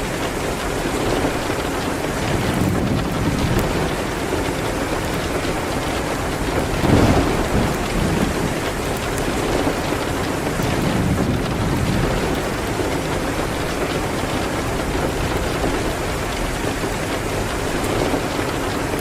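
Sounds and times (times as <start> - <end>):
heavy rain hitting a window: 0.0 - 19.0.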